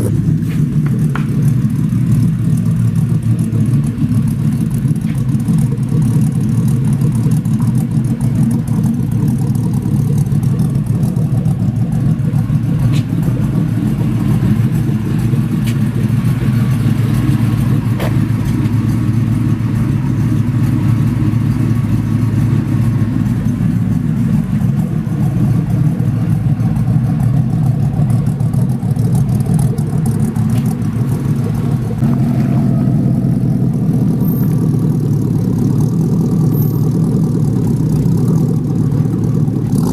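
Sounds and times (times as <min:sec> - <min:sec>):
engine idling from exhaust: 0:00.0 - 0:39.9.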